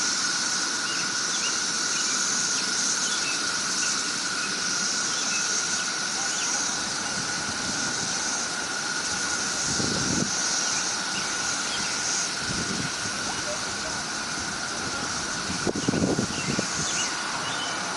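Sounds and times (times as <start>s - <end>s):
cicadas droning: 0.0s - 17.9s
lower whine: 0.0s - 17.9s.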